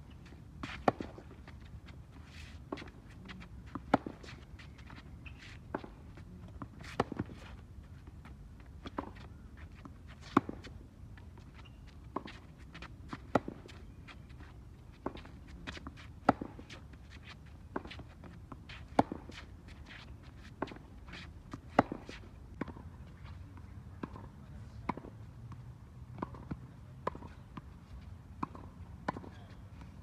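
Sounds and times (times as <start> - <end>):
tennis ball bouncing: 0.6 - 7.6, 8.2 - 22.8, 24.0 - 24.3, 26.1 - 27.3, 28.4 - 29.5.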